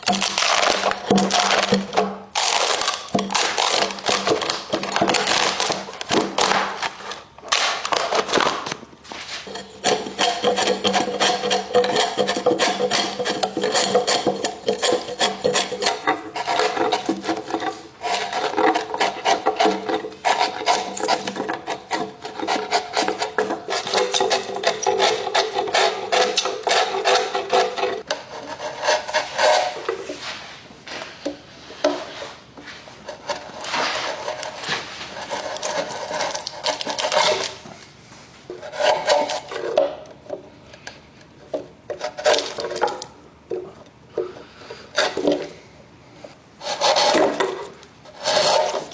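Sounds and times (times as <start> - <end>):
hand tool working wood: 0.0 - 30.5, 31.3 - 37.8, 38.5 - 40.0, 46.6 - 48.9.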